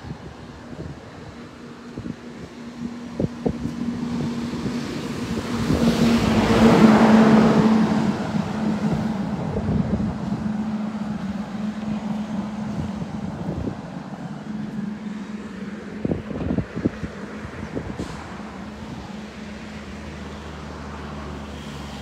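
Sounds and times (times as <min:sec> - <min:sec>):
vehicle passing by: 0:02.0 - 0:22.0.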